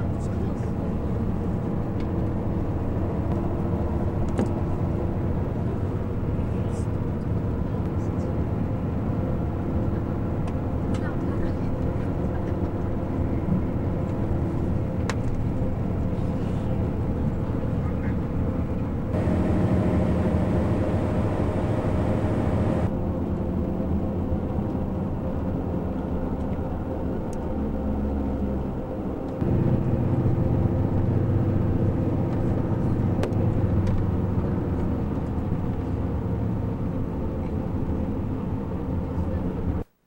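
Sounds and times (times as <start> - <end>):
engine drone with low hum: 0.0 - 40.0.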